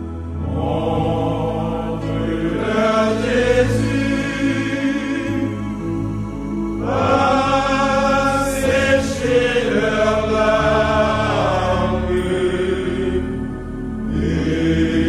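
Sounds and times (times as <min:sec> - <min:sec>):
several voices singing slowly: 0:00.0 - 0:15.0.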